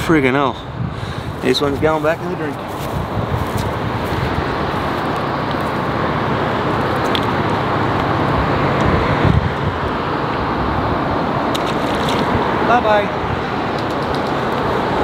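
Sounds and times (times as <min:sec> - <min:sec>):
wind on microphone: 0:00.0 - 0:06.0, 0:06.7 - 0:15.0
distant road traffic: 0:00.0 - 0:15.0.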